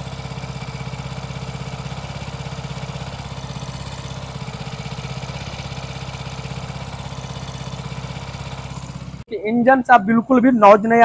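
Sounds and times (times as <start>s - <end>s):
motorcycle engine idling: 0.0s - 9.3s.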